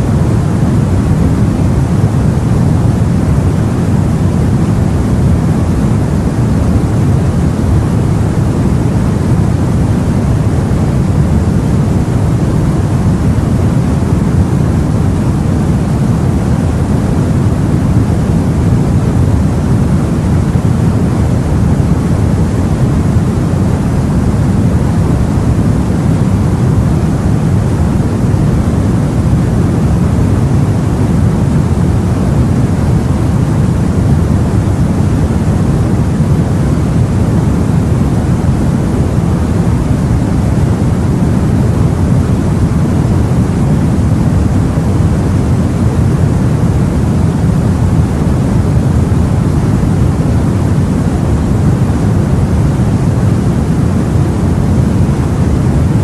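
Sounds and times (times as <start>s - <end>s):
low rumbling of sea: 0.0s - 56.0s.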